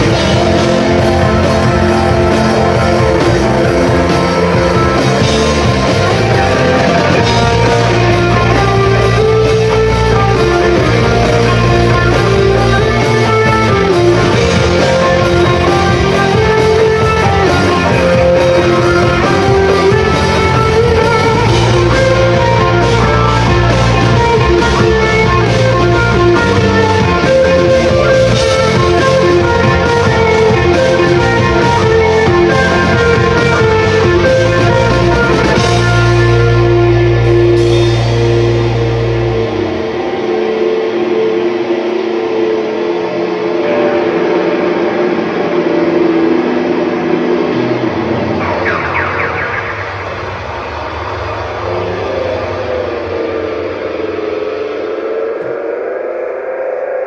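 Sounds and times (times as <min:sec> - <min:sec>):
rock band playing: 0:00.0 - 0:53.1
electric guitar: 0:00.0 - 0:57.0.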